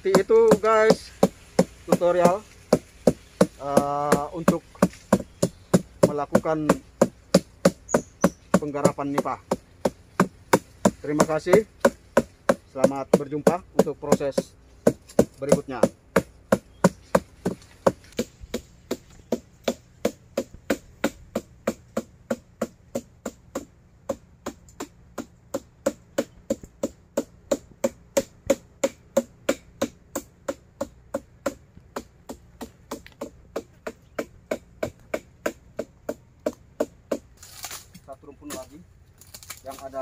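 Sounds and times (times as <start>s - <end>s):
wooden stick knocking on palm stalk: 0.0s - 40.0s.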